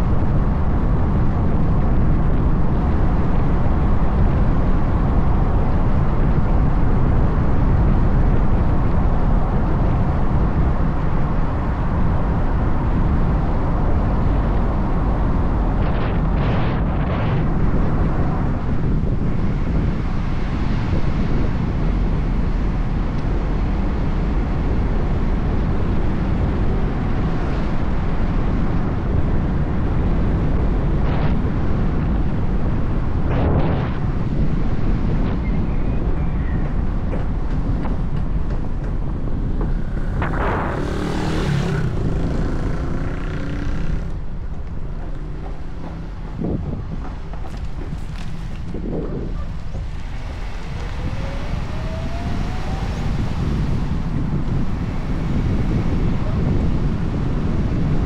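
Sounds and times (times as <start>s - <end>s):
motorcycle riding at speed: 0.0s - 58.0s
wind rush on microphone: 0.0s - 58.0s.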